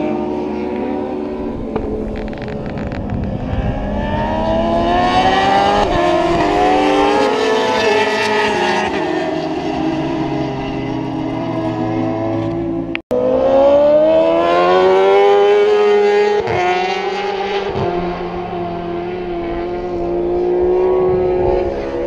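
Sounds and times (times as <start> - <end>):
motorcycle engines howling: 0.0 - 22.0.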